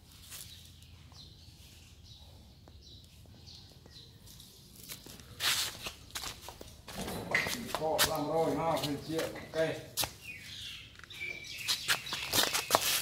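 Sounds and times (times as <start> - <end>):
faint outdoor background noise: 0.0 - 13.0
small birds chirping: 0.0 - 13.0.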